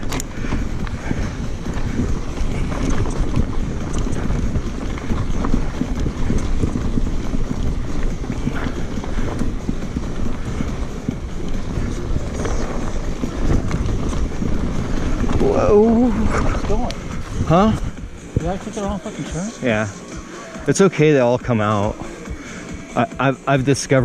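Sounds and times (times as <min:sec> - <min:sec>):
wind buffeting microphone: 0:00.0 - 0:20.0
bike tyres crunching over rocks: 0:00.0 - 0:22.6
bike clattering: 0:00.0 - 0:22.8.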